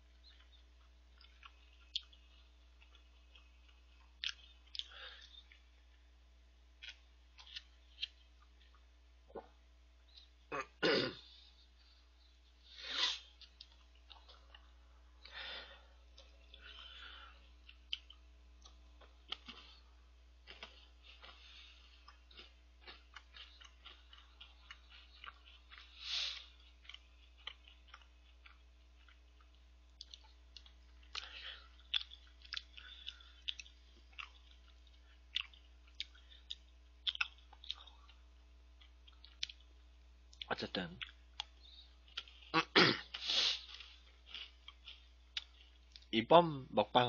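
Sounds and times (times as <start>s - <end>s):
chewing with wet clicks: 0.0s - 6.0s, 6.8s - 9.5s, 13.4s - 15.4s, 16.1s - 19.8s, 20.4s - 42.6s, 43.6s - 46.1s.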